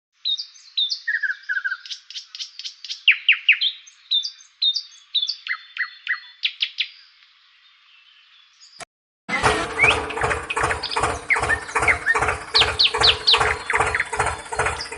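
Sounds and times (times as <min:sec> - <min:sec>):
birds chirping: 0:00.2 - 0:14.9.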